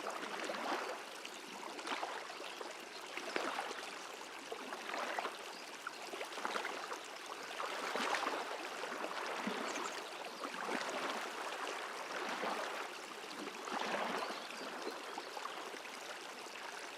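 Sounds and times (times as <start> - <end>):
stream babbling: 0.0 - 16.9.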